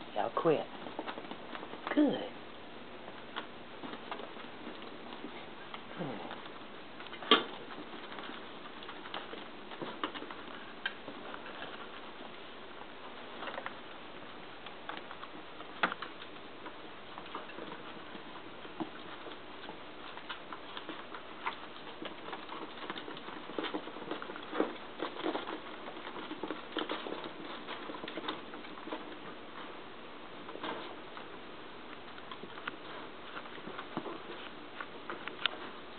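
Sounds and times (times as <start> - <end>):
puppy paws pattering: 0.0 - 35.9.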